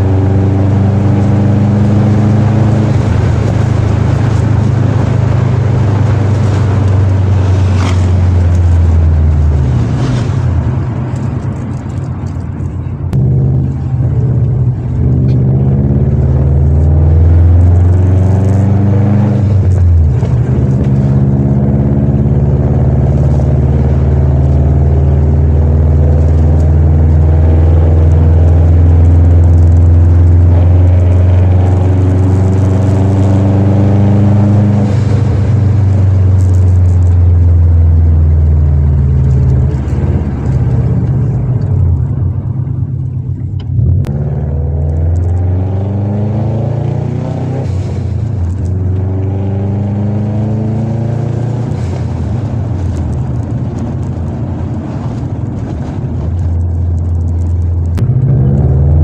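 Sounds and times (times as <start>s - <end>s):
car engine rumbling through exhaust: 0.0s - 59.0s.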